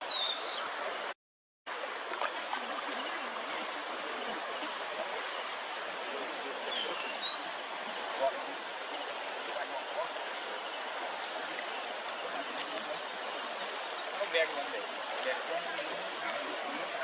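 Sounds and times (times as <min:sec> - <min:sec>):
flowing water: 0:00.0 - 0:01.1, 0:01.7 - 0:17.0
insects droning: 0:00.0 - 0:17.0.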